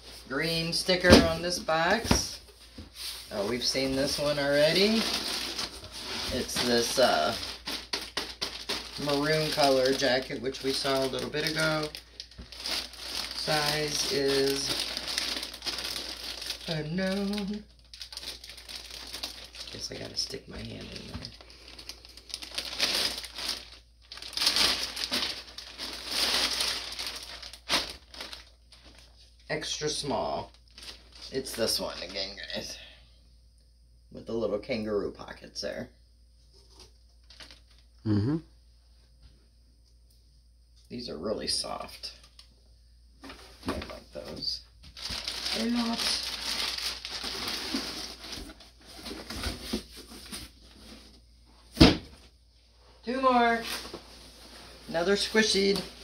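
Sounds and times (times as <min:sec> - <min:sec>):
plastic and clothing rustling: 0:00.0 - 0:32.7, 0:36.6 - 0:37.8, 0:43.2 - 0:52.4, 0:53.1 - 0:56.0.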